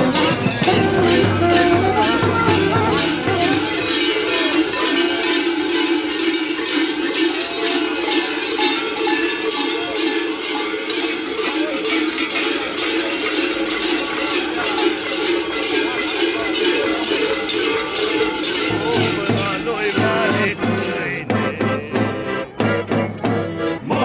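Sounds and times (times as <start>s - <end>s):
metal cowbells clanging: 0.0s - 24.0s.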